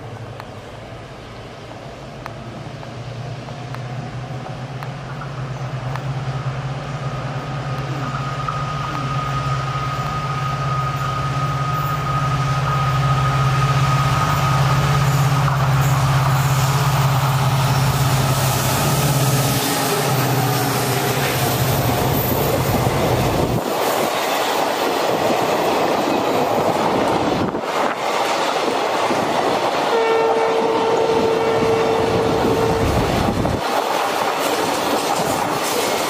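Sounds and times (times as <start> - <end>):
diesel locomotive engine drumming: 0.0 - 36.0.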